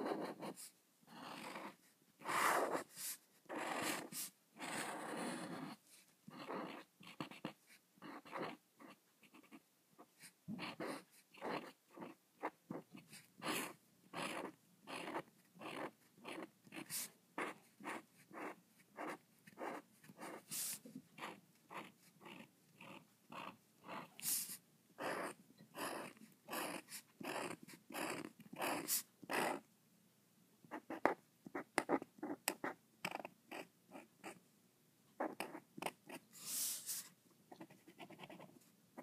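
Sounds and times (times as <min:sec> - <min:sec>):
marker pen scratching on paper: 0:00.0 - 0:29.6, 0:30.7 - 0:34.4, 0:35.2 - 0:39.0.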